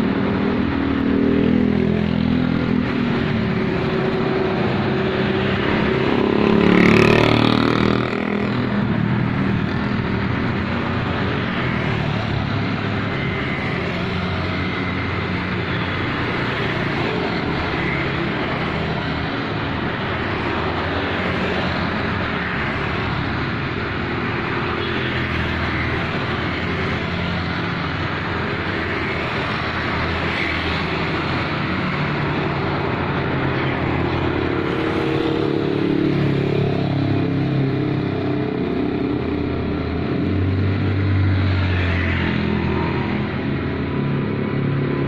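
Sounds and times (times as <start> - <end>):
vehicles driving past: 0.0 - 45.0.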